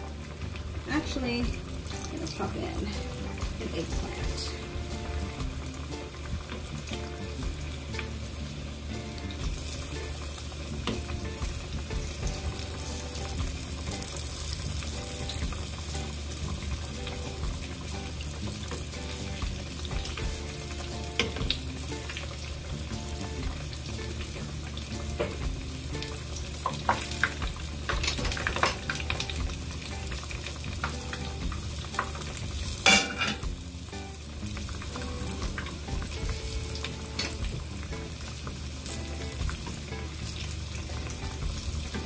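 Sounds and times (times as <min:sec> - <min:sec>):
oil sizzling in pan: 0:00.0 - 0:42.0.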